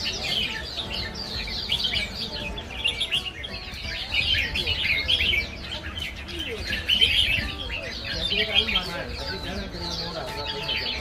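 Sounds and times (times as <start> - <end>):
songbirds twittering: 0.0 - 11.0.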